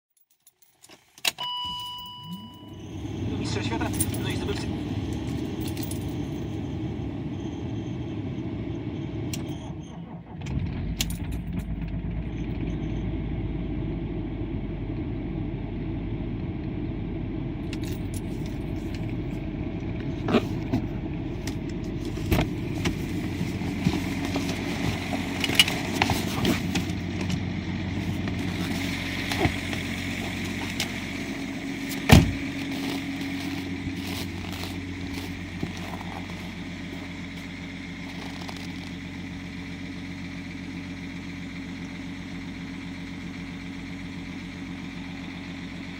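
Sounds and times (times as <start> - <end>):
diesel engine starting and idling: 1.3 - 45.9.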